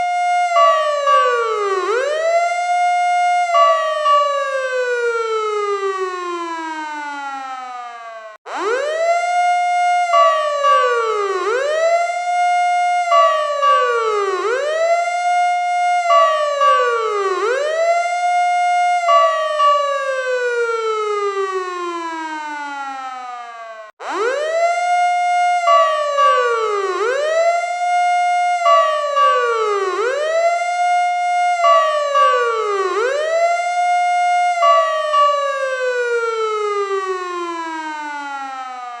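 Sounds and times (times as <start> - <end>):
fire truck siren wailing: 0.0 - 39.0.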